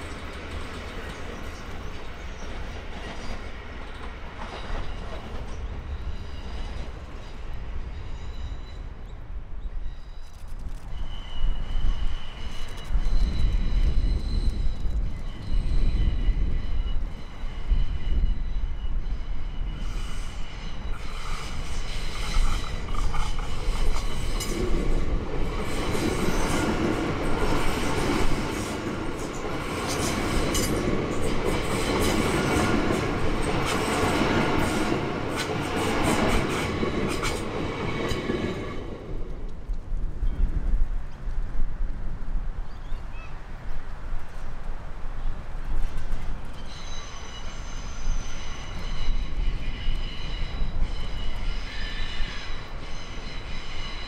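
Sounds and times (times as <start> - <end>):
electric train whine: 0.0 - 41.9, 44.2 - 54.0
train rolling noise: 0.0 - 54.0.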